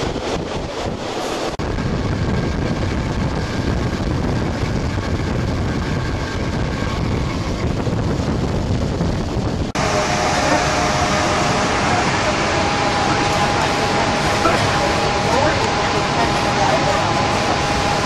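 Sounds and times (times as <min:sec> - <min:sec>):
train wheels rumbling on rails: 0:00.0 - 0:18.0
wind buffeting microphone: 0:00.0 - 0:18.0
faint hum: 0:01.6 - 0:18.0.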